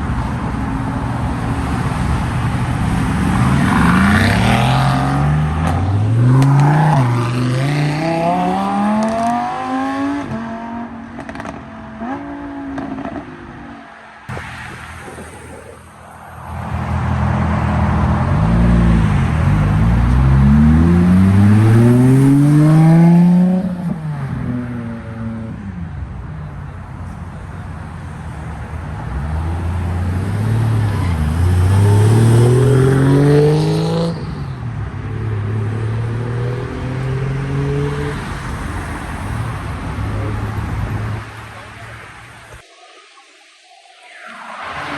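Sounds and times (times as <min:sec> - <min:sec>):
car engines accelerating hard: 0:00.0 - 0:42.6.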